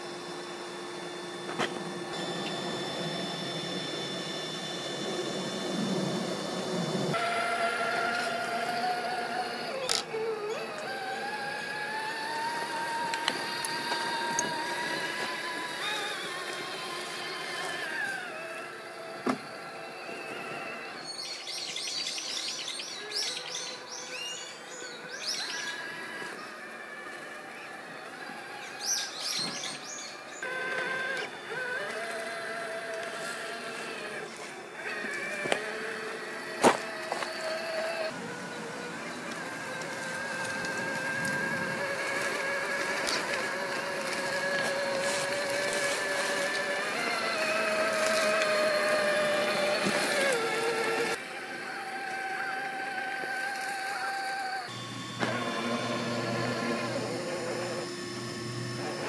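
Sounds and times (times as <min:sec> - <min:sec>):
electric motor and gears whining: 0:00.0 - 0:59.0.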